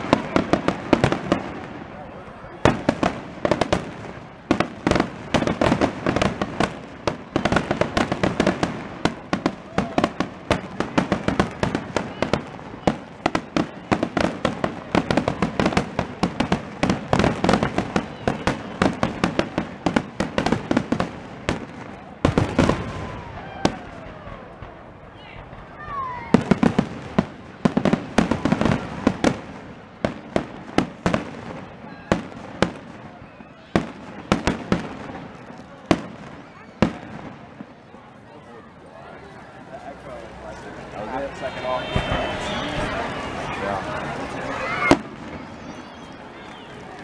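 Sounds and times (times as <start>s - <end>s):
fireworks booming and crackling: 0.0s - 47.0s.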